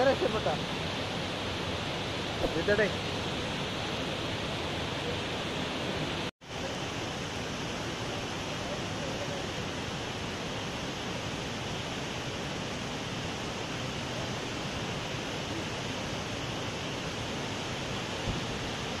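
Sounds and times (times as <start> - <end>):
floodwater rushing over waterfall: 0.0 - 19.0.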